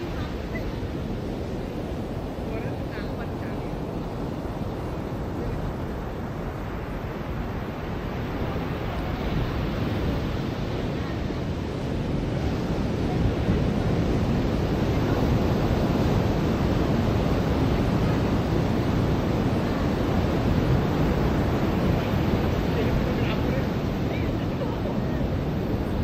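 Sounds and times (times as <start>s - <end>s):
ocean waves washing onto beach: 0.0s - 26.0s.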